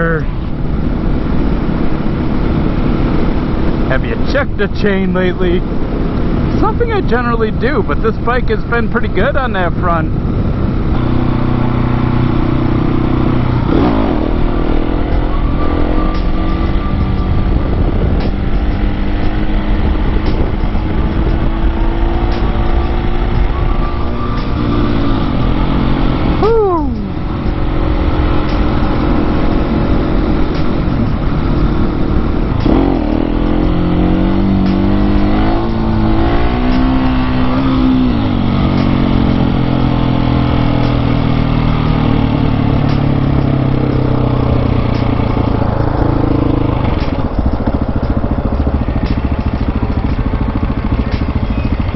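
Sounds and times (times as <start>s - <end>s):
motorcycle engine running: 0.0s - 51.9s
wind noise: 0.0s - 51.9s.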